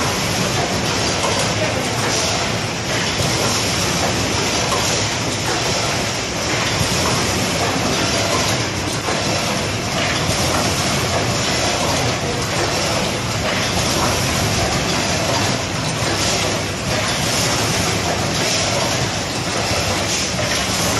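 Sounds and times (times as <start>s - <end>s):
dense machine noise: 0.0s - 20.9s.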